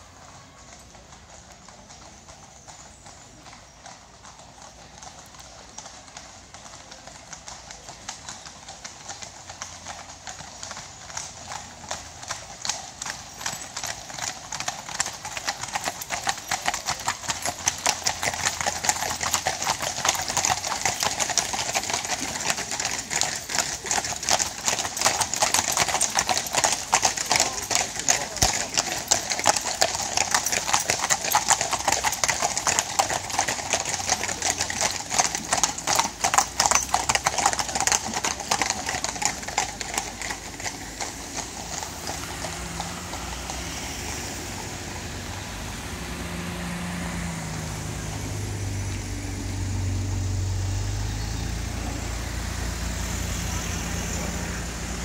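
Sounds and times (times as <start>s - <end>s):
horse hooves clip-clopping on asphalt: 0.0s - 55.0s.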